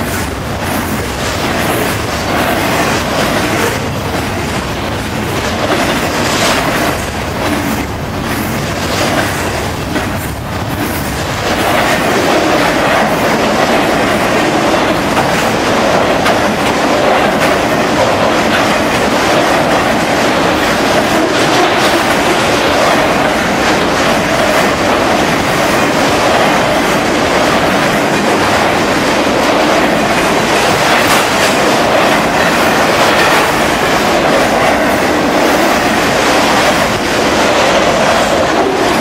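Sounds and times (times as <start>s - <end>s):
clickety-clack of steel wheels: 0.0s - 39.0s
freight train rolling past: 0.0s - 39.0s.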